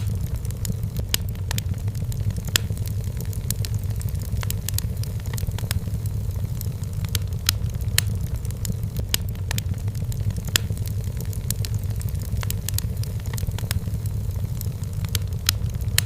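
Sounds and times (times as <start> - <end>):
fire low rumble: 0.0 - 16.0
firewood crackling and popping: 0.0 - 16.0.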